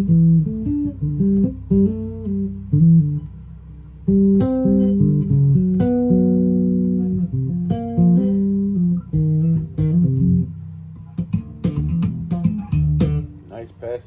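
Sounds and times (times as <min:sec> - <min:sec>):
electric bass plucked notes: 0:00.0 - 0:14.0.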